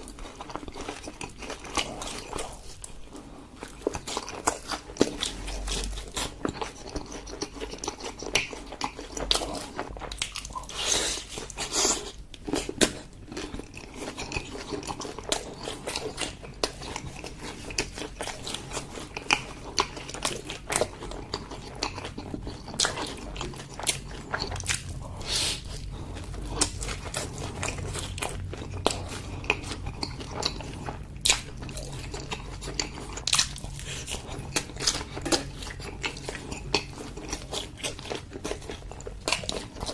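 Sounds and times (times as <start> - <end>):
person chewing and crunching: 0.0 - 39.9.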